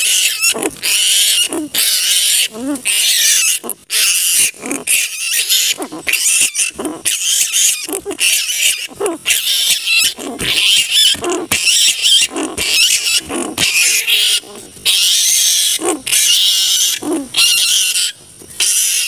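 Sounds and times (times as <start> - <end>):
flying foxes screeching: 0.0 - 19.0.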